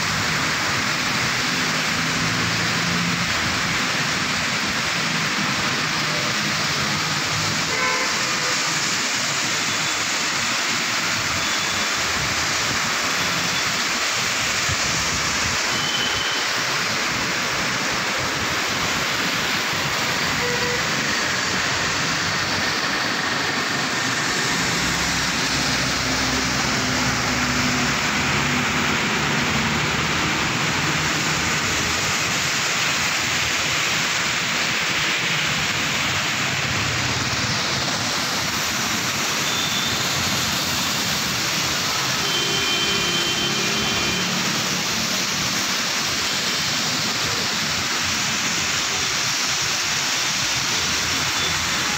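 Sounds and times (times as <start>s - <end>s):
heavy rain pouring: 0.0s - 51.9s
tyres hissing through water: 0.0s - 51.9s.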